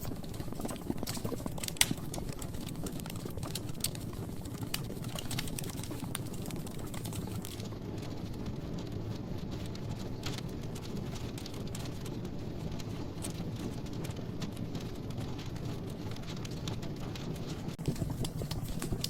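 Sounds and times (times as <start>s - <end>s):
low rush of flames: 0.0s - 19.0s
wood fire crackling and popping: 0.0s - 19.0s.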